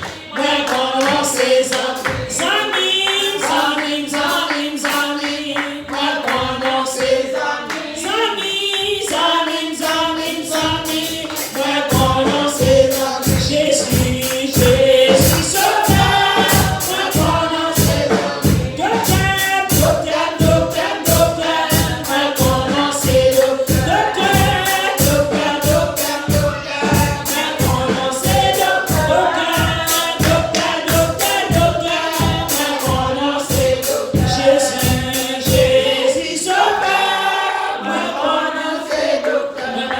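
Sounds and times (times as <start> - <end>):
steady percussive beat: 0.0 - 5.3, 8.8 - 37.4
congregation singing a hymn: 0.0 - 39.9.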